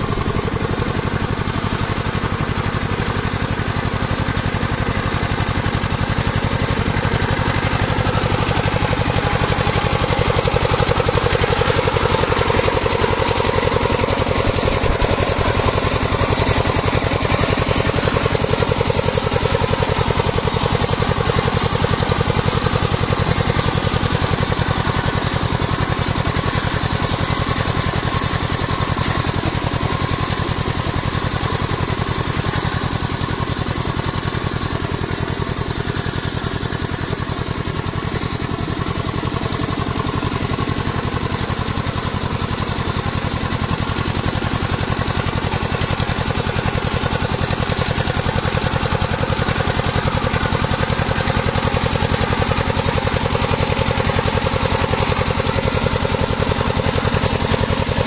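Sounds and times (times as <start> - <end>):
diesel tiller engine chugging: 0.0 - 58.0.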